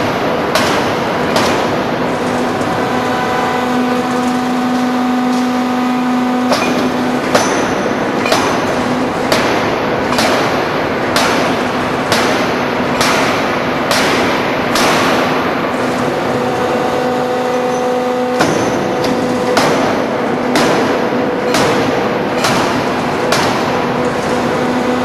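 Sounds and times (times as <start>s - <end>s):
forging hammer mechanical hum: 0.0s - 25.0s
heavy ringing hammer blows: 0.0s - 25.0s
loud shop noise: 0.0s - 25.0s.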